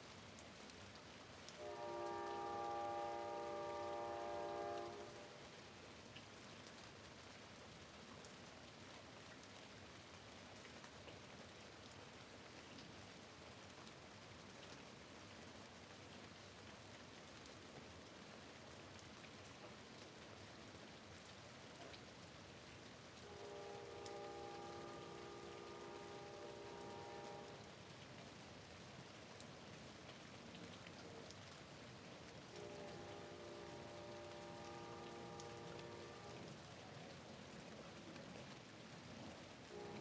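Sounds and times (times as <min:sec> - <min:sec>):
light rain hiss: 0:00.0 - 0:40.0.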